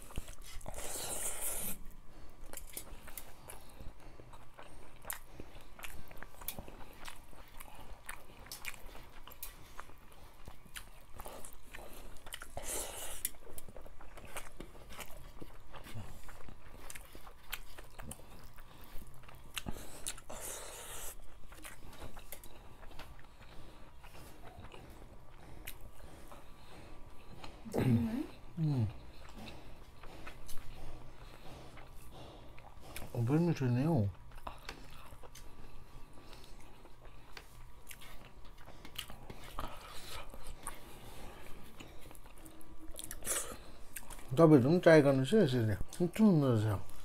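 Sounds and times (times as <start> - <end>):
wet chewing and lip-smacking: 0.0 - 47.0.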